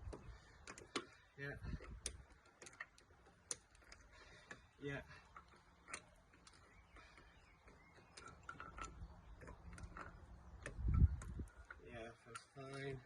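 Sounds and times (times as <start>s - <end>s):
metallic clicks of wheel nuts: 0.0s - 13.0s.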